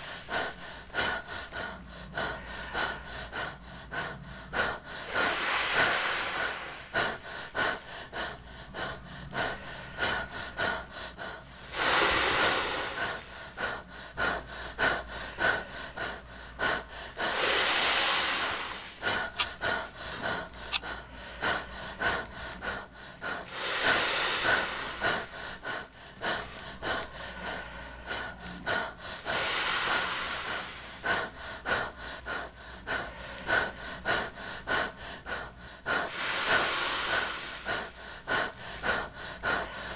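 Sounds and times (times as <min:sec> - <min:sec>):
quick gasping breaths: 0:00.0 - 0:39.9.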